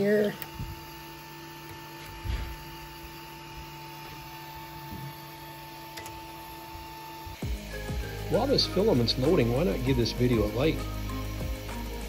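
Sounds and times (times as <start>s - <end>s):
printer humming with fixed tones: 0.0s - 12.0s.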